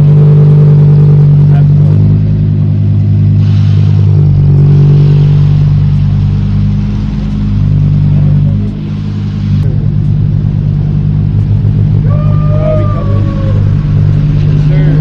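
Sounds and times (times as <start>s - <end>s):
car engine deep drone: 0.0s - 15.0s.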